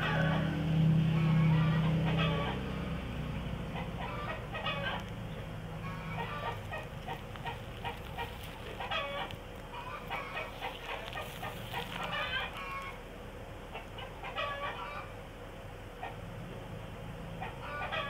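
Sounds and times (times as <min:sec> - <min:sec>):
chickens clucking: 0:00.0 - 0:13.0, 0:13.6 - 0:15.2, 0:17.3 - 0:18.0.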